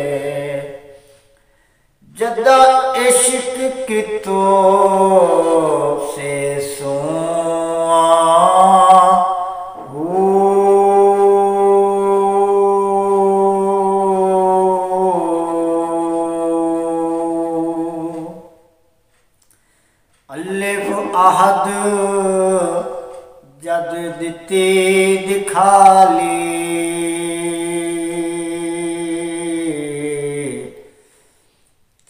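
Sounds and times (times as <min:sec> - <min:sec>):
man singing unaccompanied: 0:00.0 - 0:01.2, 0:02.0 - 0:18.8, 0:20.2 - 0:31.0.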